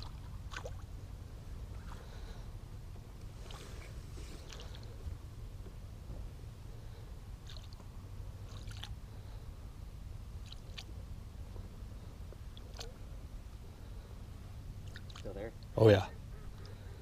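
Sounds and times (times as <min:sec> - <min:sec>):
boat low rumble: 0:00.0 - 0:17.0.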